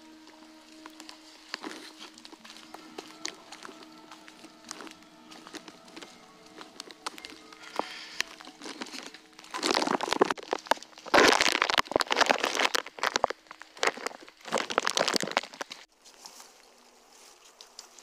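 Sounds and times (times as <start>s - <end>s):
rustling and crunching: 0.0s - 18.0s.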